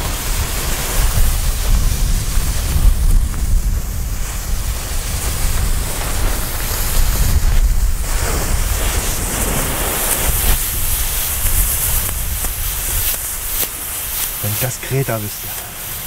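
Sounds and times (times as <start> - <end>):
wind rumble on microphone: 0.0 - 14.4
smoke fireworks hissing: 0.0 - 16.0.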